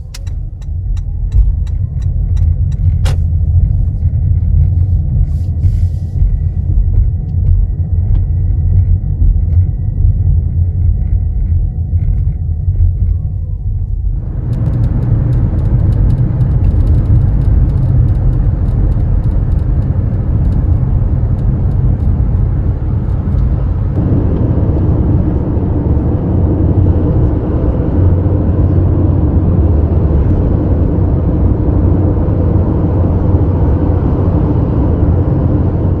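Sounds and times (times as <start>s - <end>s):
car road and tyre rumble: 0.0s - 36.0s.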